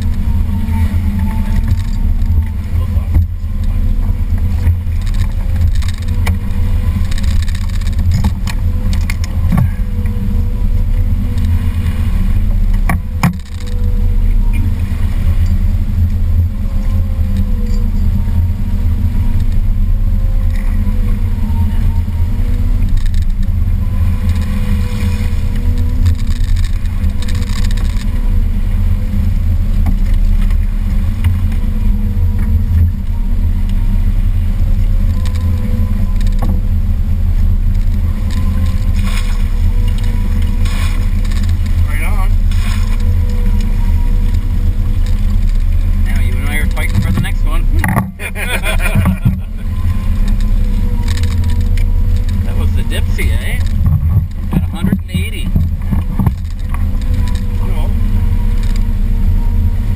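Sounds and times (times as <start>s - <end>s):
boat motor droning: 0.0s - 59.9s.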